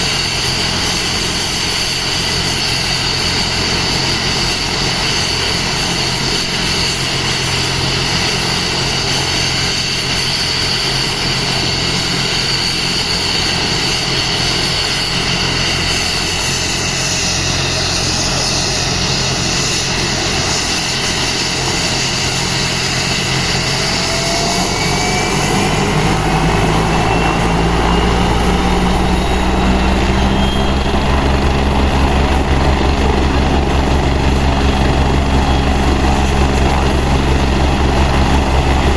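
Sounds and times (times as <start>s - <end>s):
helicopter engines and rotor: 0.0s - 38.9s
turbine whine rising: 0.0s - 38.9s.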